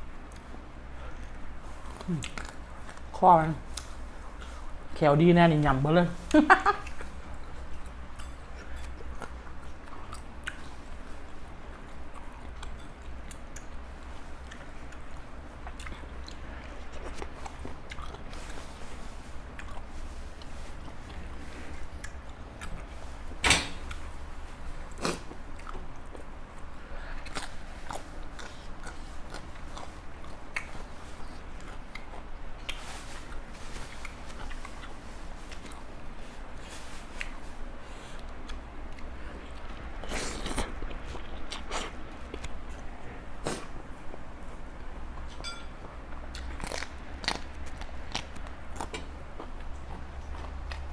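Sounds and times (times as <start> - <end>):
person eating and chewing: 0.2 - 4.8, 6.2 - 50.9.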